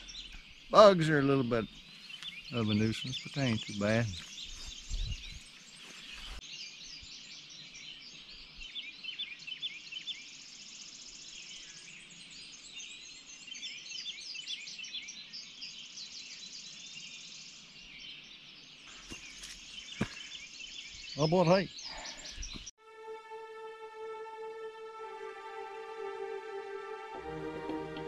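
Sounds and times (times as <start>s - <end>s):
songbirds chirping and whistling: 0.0s - 22.7s.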